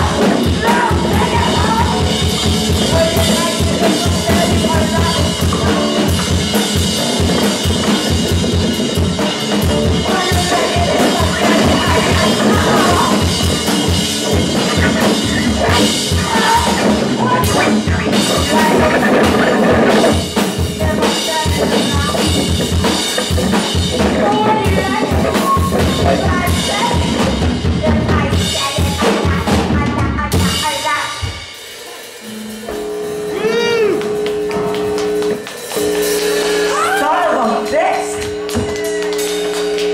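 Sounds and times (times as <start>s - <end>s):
steady held tones: 0.0s - 27.3s, 31.6s - 39.9s
fast drumming on drum kit: 0.0s - 39.9s
live rock band playing: 0.0s - 39.9s.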